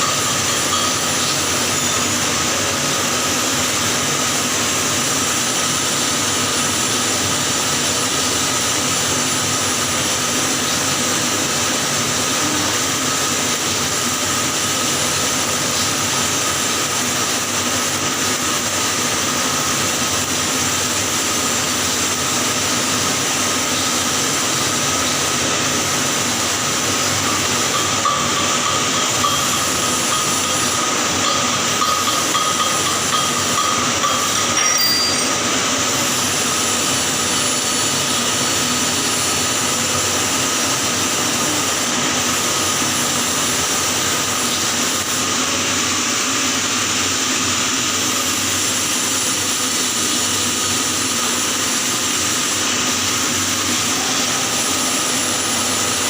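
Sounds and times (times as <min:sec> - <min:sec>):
welding arc hissing: 0:00.0 - 0:56.0.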